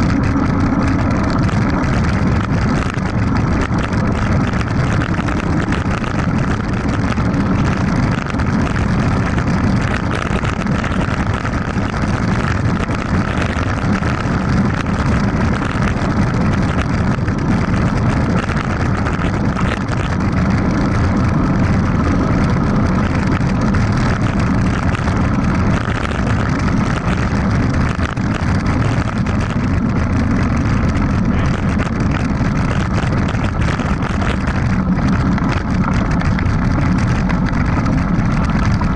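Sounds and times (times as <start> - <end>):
tyres rolling on dirt: 0.0 - 38.9
wind rush on microphone: 0.0 - 38.9.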